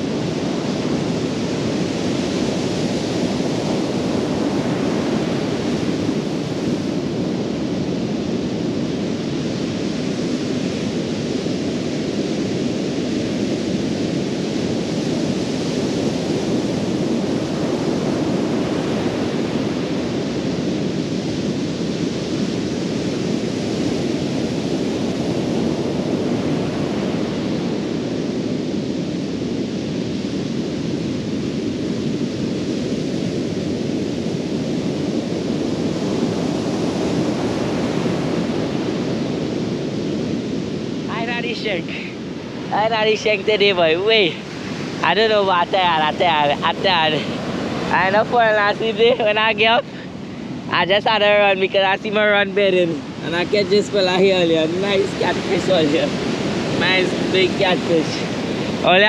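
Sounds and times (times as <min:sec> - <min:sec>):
ocean surf breaking on a beach: 0:00.0 - 0:59.0.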